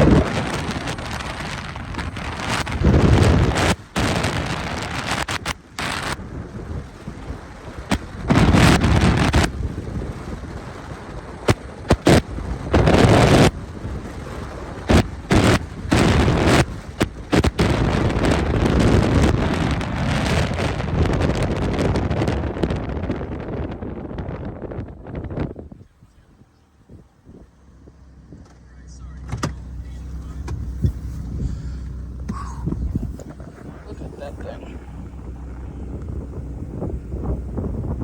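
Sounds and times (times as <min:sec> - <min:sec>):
wind gusts buffeting microphone: 0:00.0 - 0:38.0.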